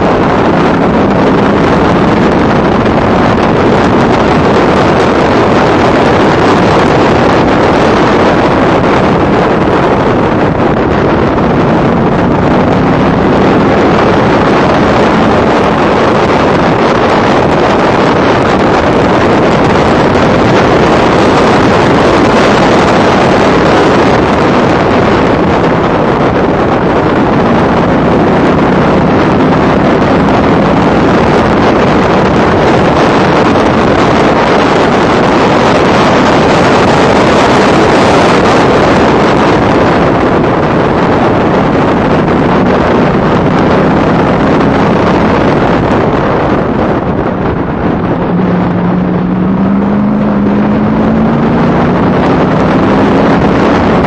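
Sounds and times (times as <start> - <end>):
race car engine running hard: 0.0 - 54.0
wind noise on microphone: 0.0 - 54.0.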